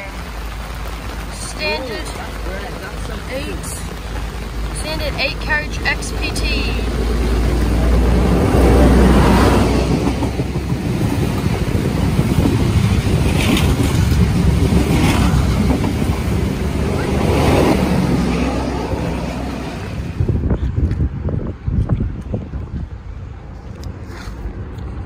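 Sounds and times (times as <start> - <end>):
heavy rain: 0.0 - 21.5
train passing at speed: 0.0 - 21.6.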